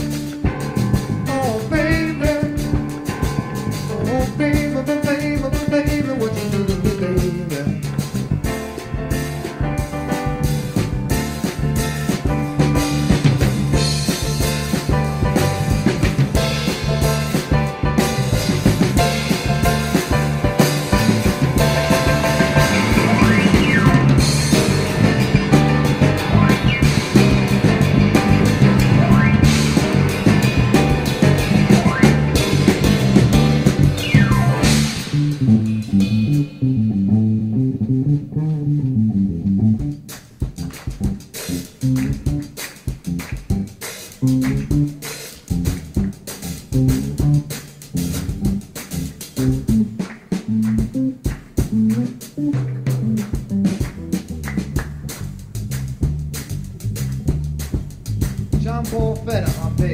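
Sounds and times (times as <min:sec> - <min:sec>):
band music with bass and drums: 0:00.0 - 0:59.9.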